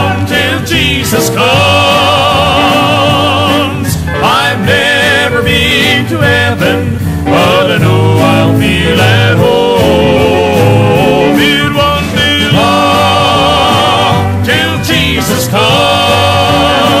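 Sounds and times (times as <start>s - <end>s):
country gospel music: 0.0s - 17.0s.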